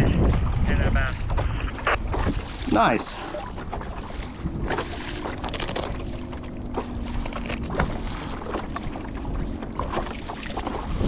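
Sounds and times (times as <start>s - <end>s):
water splashing along hull: 0.0s - 11.0s
wind rumbling on microphone: 0.0s - 11.0s.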